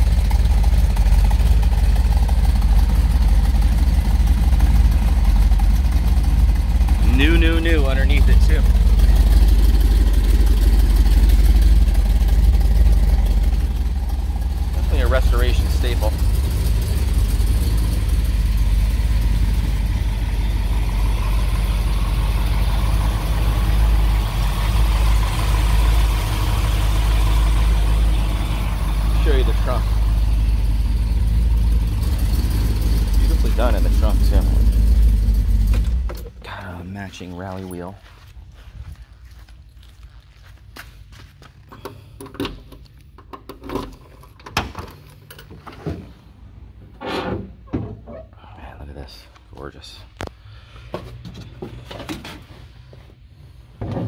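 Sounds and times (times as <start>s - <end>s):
car engine idling lumpily: 0.0s - 54.0s.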